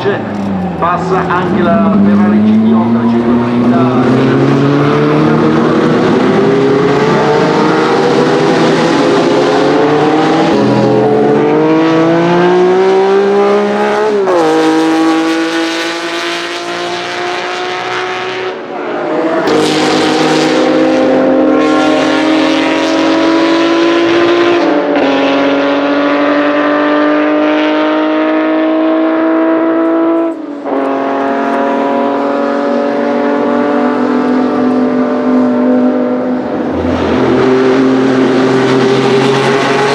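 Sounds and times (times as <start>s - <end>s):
racing car engine at full throttle: 0.0s - 39.9s.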